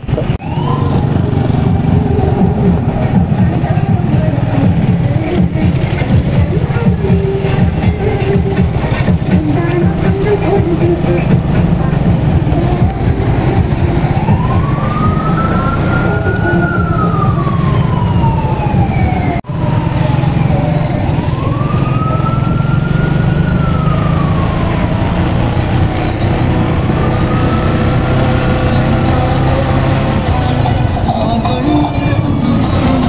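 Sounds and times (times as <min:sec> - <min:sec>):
motorcycle engine running: 0:00.0 - 0:33.0
emergency siren wailing: 0:00.2 - 0:33.0.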